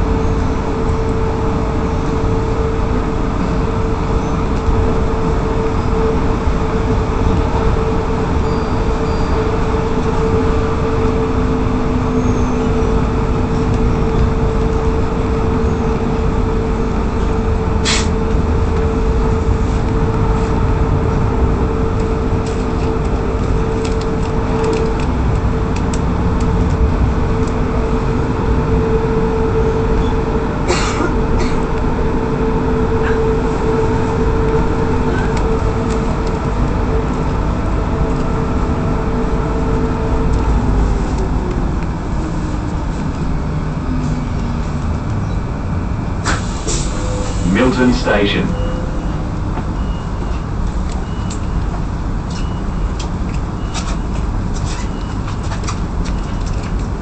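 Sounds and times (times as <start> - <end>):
constant hum: 0.0 - 57.0
electric train running noise: 0.0 - 57.0.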